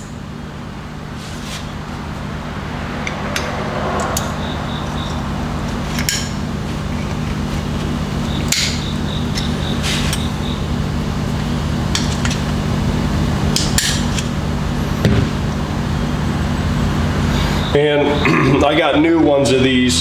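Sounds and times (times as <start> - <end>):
low hum: 0.0 - 17.8.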